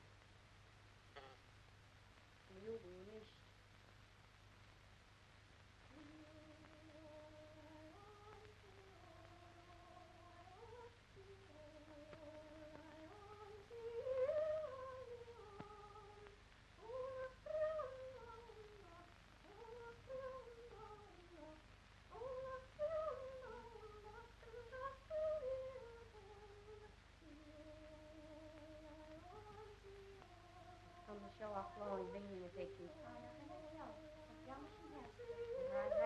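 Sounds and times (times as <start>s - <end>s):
person singing unaccompanied melody: 2.5s - 3.4s, 5.9s - 36.0s.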